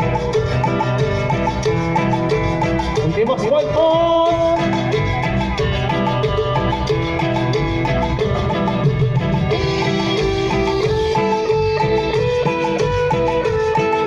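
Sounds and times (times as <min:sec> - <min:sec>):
latin dance music: 0:00.0 - 0:14.0.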